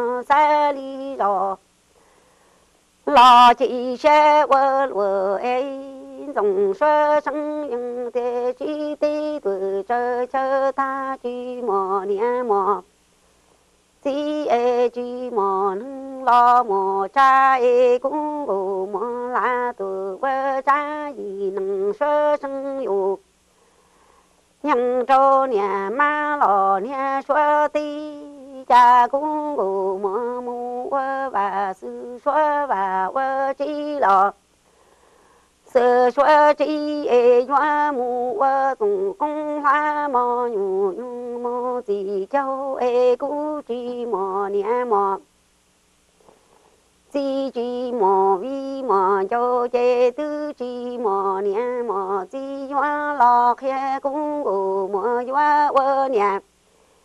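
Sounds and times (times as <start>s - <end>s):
person singing unaccompanied: 0.0s - 2.3s, 3.0s - 13.0s, 13.9s - 23.5s, 24.5s - 45.4s, 46.2s - 56.6s.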